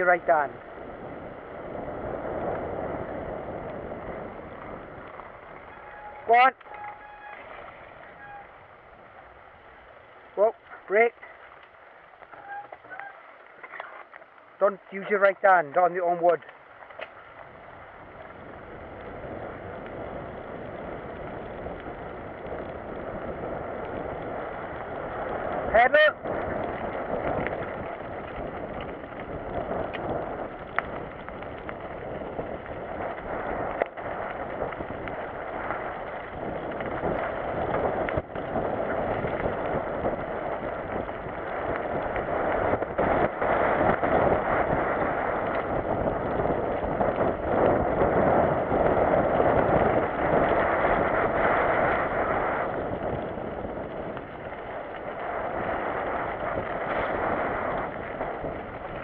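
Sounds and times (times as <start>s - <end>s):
bike tyres rumbling on gravel: 0.0s - 59.0s
wind on microphone: 0.0s - 59.0s.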